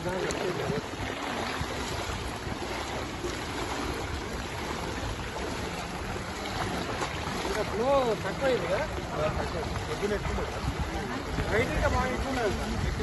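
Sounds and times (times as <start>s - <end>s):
water sloshing around wading legs: 0.0s - 13.0s.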